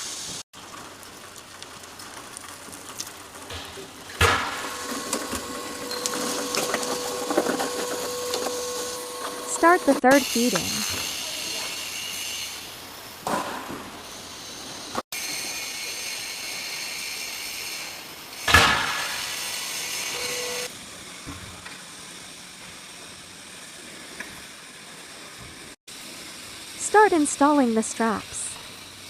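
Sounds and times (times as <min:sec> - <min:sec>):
baler hydraulic hiss and whine: 0:04.6 - 0:13.3, 0:14.0 - 0:29.0.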